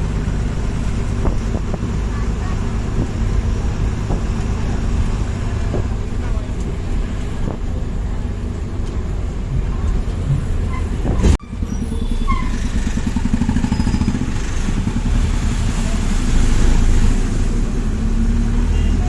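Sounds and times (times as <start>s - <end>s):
bus engine drone: 0.0s - 19.0s
road rumble: 0.0s - 19.0s.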